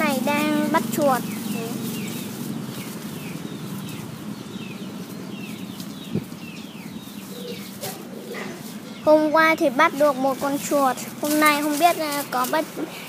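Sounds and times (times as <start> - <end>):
small bird chirping: 0.0 - 12.7.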